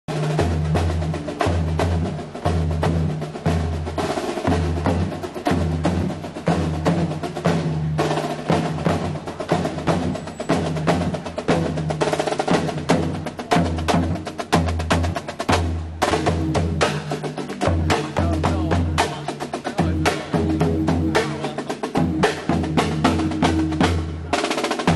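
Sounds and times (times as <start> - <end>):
marching bass drum beats: 0.1 - 24.9
snare drum strokes and rolls: 0.1 - 24.9.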